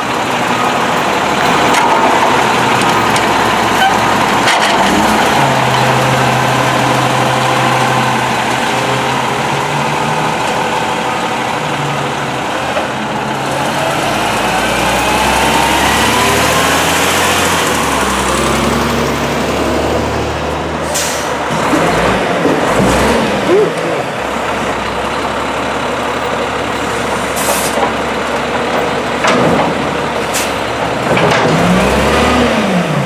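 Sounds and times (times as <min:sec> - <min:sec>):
garbage truck diesel engine running: 0:00.0 - 0:33.0.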